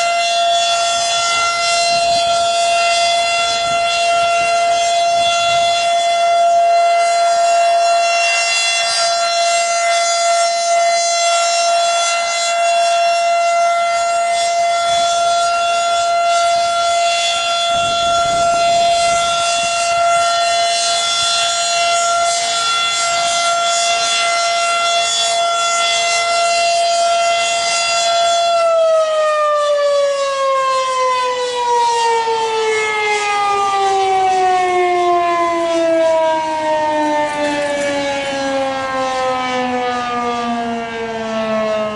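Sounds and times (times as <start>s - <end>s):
warning siren winding down: 0.0s - 41.9s.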